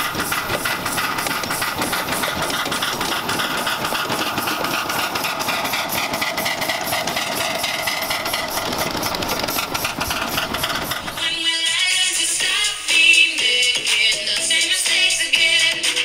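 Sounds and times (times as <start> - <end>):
steam locomotive exhaust chuffing: 0.0 - 13.8.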